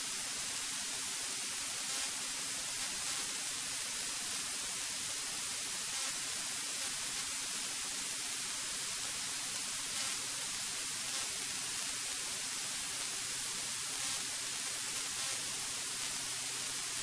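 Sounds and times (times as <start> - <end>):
intercom static hiss: 0.0 - 17.0.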